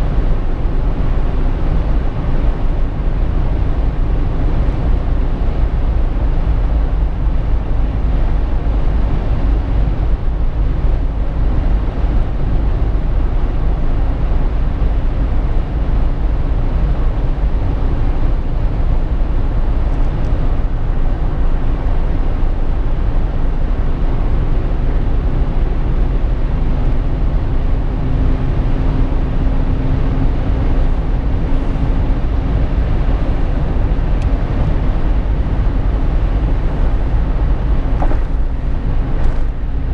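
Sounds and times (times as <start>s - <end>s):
deep engine rumble: 0.0s - 39.9s
road and wind noise: 0.0s - 39.9s.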